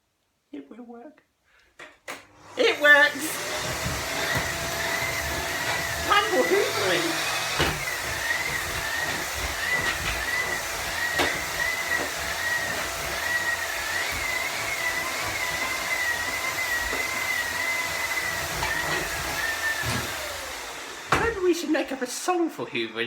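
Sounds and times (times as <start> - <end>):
vacuum cleaner running: 2.1 - 23.0.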